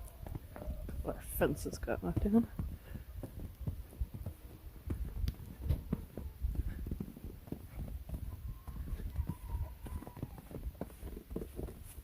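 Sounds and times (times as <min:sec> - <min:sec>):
footsteps in snow: 0:00.0 - 0:12.0.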